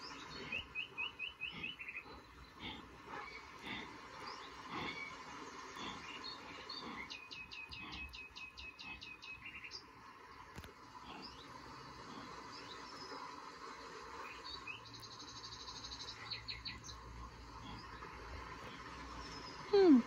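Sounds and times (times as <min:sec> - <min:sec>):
birds chirping and calling: 0:00.0 - 0:09.9, 0:10.6 - 0:13.3, 0:14.2 - 0:20.0.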